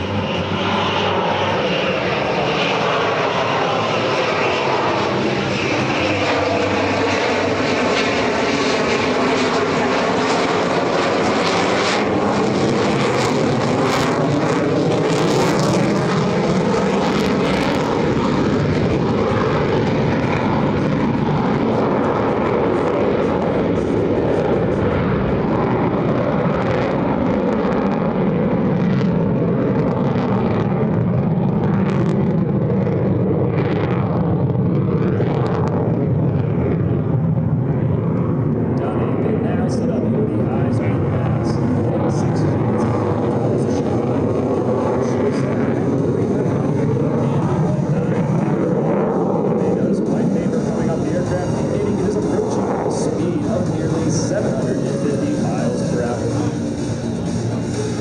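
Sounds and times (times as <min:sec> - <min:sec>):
jet engine rumble: 0:00.0 - 0:58.0.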